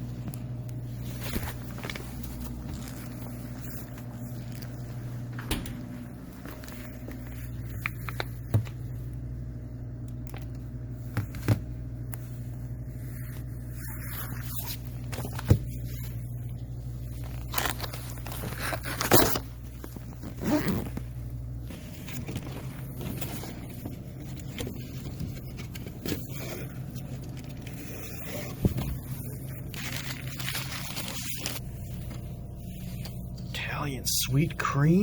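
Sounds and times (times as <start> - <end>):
scraping and rustling handling noise: 0.0 - 9.2, 10.2 - 35.0
low steady hum: 0.0 - 35.0.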